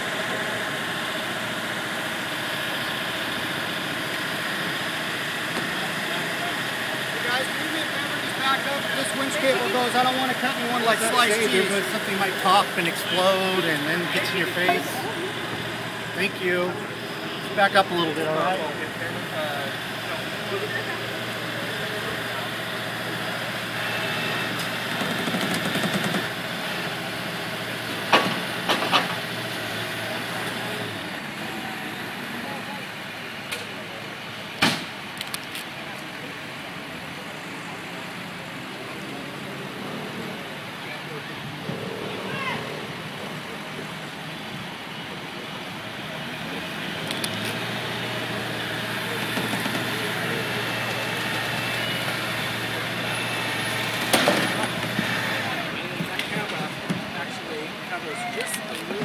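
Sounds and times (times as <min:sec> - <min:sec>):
street noise: 0:00.0 - 0:59.0
vehicle engine idling: 0:00.0 - 0:59.0.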